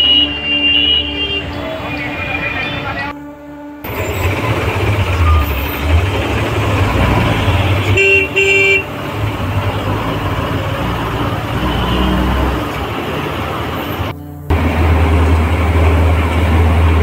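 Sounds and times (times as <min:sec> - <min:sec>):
vehicle horn toots: 0:00.0 - 0:14.2
bus engine and road noise: 0:00.0 - 0:17.0.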